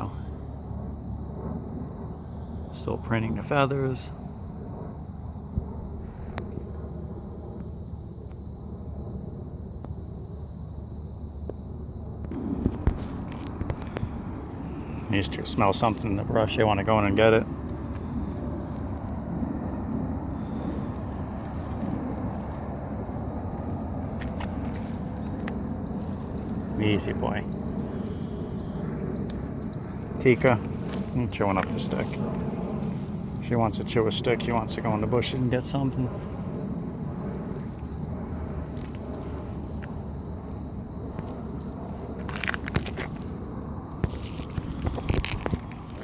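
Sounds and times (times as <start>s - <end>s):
insect chirping: 0.0s - 46.0s
steady low rumble: 0.0s - 46.0s
crackling rustles: 5.6s - 8.5s, 11.5s - 46.0s.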